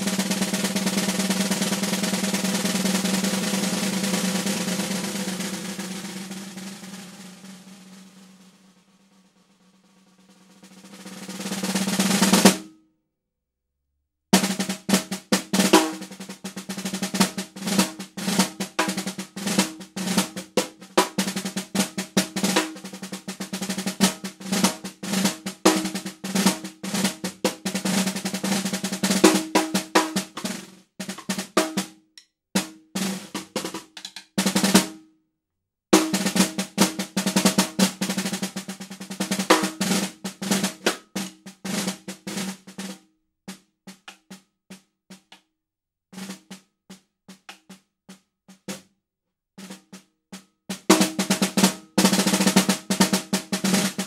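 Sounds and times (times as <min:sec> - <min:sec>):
snare drum: 0:00.0 - 0:12.7, 0:14.4 - 0:32.0, 0:32.6 - 0:35.0, 0:36.0 - 0:45.4, 0:46.2 - 0:48.9, 0:49.6 - 0:54.0.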